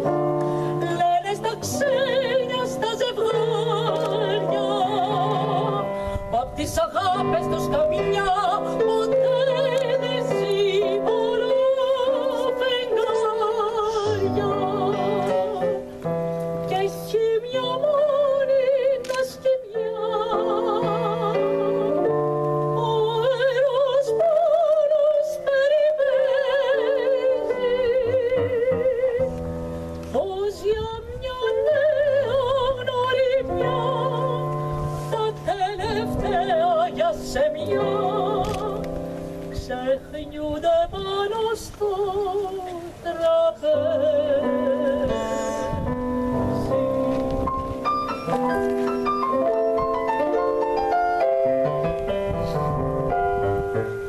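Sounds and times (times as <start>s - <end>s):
woman singing operatically: 0.0s - 16.0s, 16.7s - 29.4s, 30.1s - 39.0s, 39.6s - 47.3s
instrumental accompaniment: 0.0s - 41.1s, 43.7s - 54.0s.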